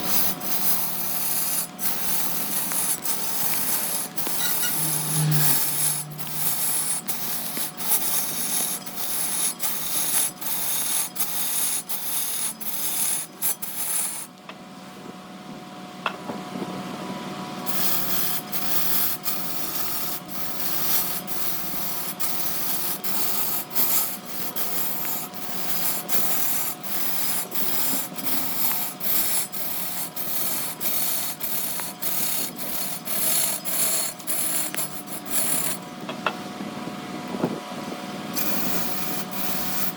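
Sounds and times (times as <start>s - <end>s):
wood rasping on a spinning lathe: 0.0s - 14.3s, 17.6s - 35.9s, 38.4s - 39.9s.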